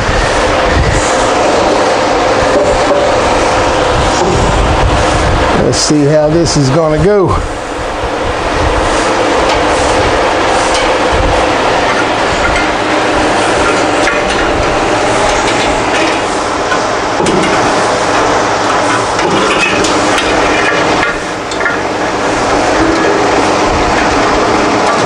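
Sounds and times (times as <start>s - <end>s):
loud rushing noise: 0.0s - 25.0s.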